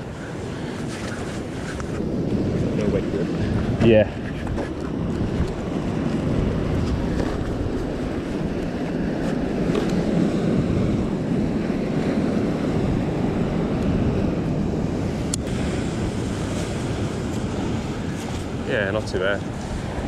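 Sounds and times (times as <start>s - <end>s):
ocean surf against rocks: 0.0s - 20.0s
wind buffeting the microphone: 0.0s - 20.0s.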